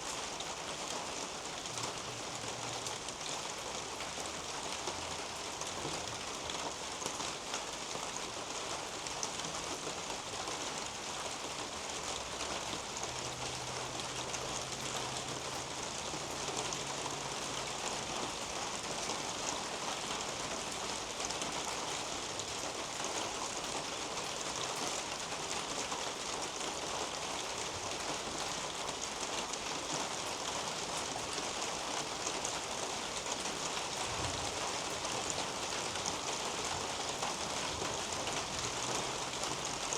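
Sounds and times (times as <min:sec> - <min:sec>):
rain on leaves and roof: 0:00.0 - 0:39.9.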